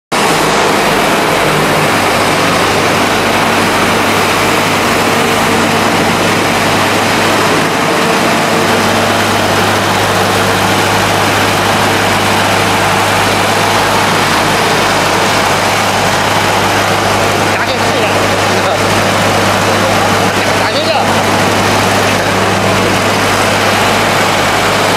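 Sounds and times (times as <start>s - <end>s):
loud mechanical drone: 0.1s - 24.9s.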